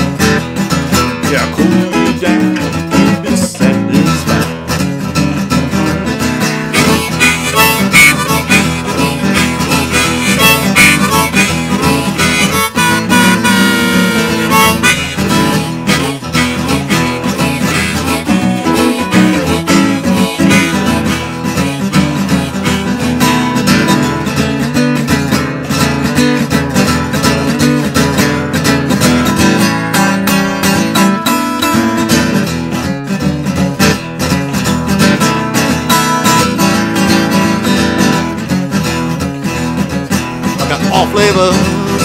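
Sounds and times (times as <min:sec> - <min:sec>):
blues harmonica solo: 0:00.0 - 0:25.2, 0:25.8 - 0:42.0
acoustic guitar strumming: 0:00.0 - 0:42.0.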